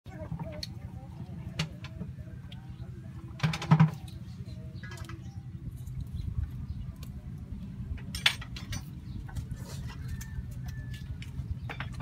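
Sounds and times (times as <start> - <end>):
wood fire rumbling: 0.3 - 12.0.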